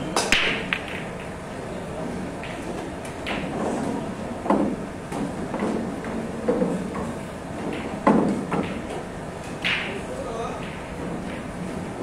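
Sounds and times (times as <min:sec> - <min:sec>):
murmur of room chatter: 0:00.0 - 0:12.0
pool balls clacking: 0:00.0 - 0:12.0.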